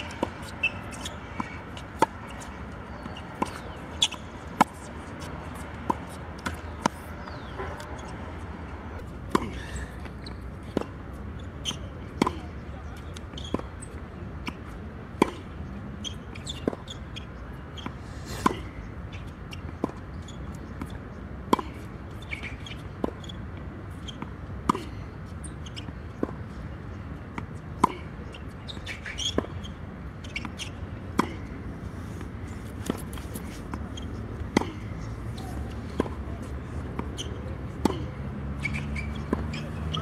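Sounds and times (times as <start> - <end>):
tennis ball bouncing on hard court: 0.0 - 11.0, 13.1 - 17.2, 19.5 - 26.6, 27.3 - 31.6, 32.6 - 40.0.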